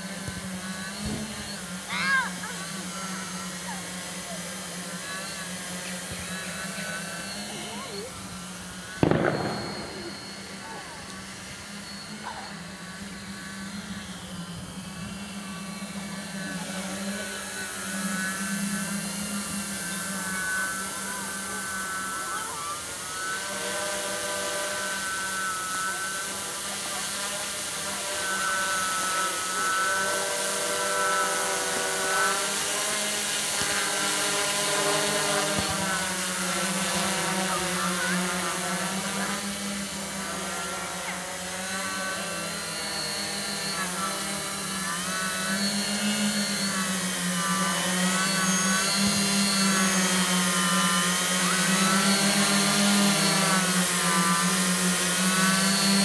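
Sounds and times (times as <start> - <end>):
drone propellers whirring: 0.0 - 56.0.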